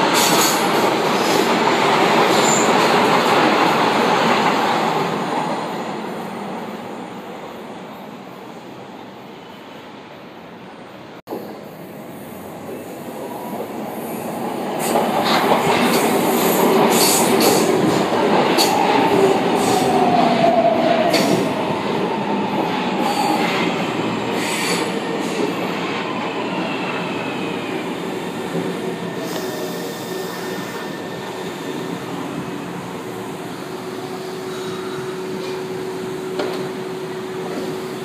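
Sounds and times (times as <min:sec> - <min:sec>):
train wheel and rail noise: 0:00.0 - 0:38.0.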